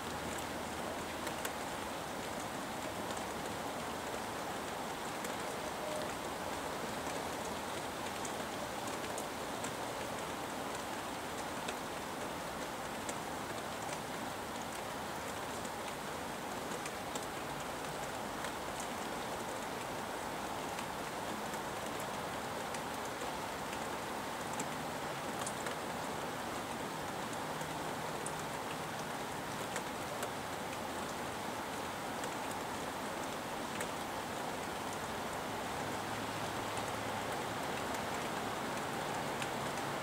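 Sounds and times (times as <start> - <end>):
raindrops ticking on surfaces: 0.0 - 40.0
steady rain falling: 0.0 - 40.0.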